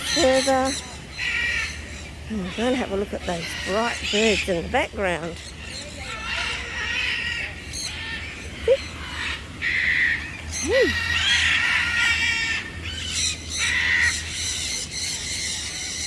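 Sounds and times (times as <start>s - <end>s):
birds squawking and chirping: 0.0s - 16.0s
low steady hum: 0.0s - 16.0s.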